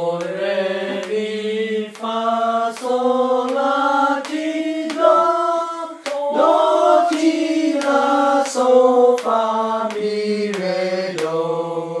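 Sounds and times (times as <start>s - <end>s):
voices singing a scale: 0.0s - 12.0s.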